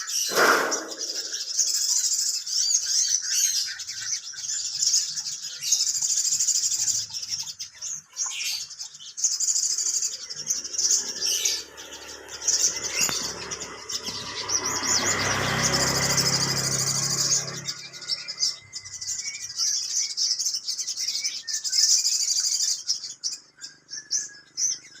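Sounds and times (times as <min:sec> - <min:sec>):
bird trilling: 0:00.0 - 0:25.0.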